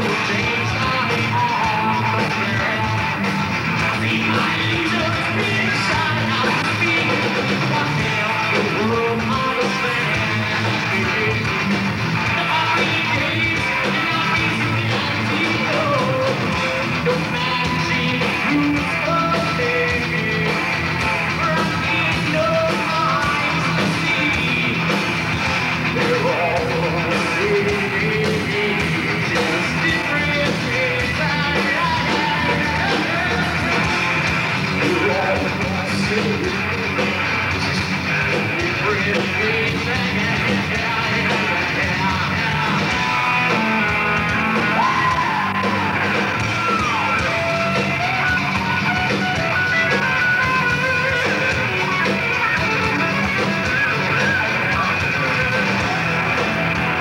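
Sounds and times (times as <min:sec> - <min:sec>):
person singing: 0:00.0 - 0:25.2, 0:25.8 - 0:57.0
bass guitar: 0:00.0 - 0:57.0
drum kit: 0:00.0 - 0:57.0
electric guitars: 0:00.0 - 0:57.0.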